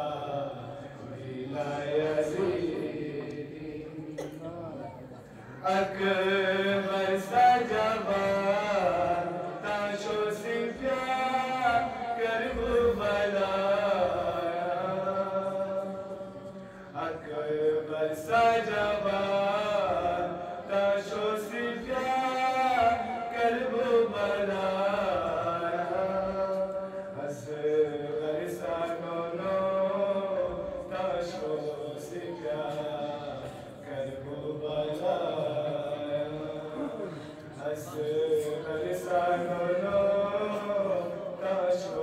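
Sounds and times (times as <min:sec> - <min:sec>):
man chanting into a microphone: 0:05.5 - 0:42.0.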